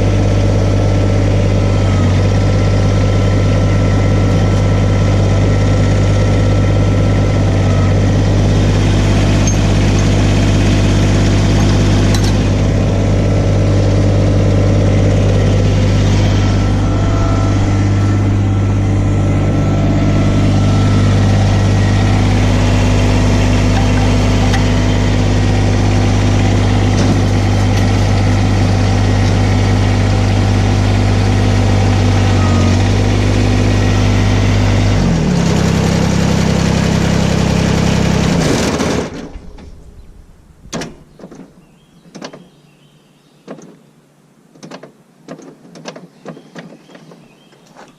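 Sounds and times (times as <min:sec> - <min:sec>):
diesel tractor engine idling: 0:00.0 - 0:42.9.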